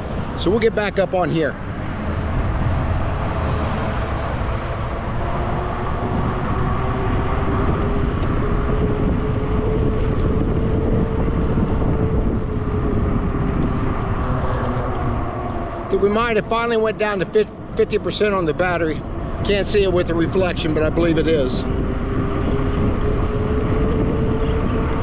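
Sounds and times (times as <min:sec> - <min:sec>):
e-bike humming drone: 0:00.0 - 0:25.0
wind rushing over microphone: 0:00.0 - 0:25.0.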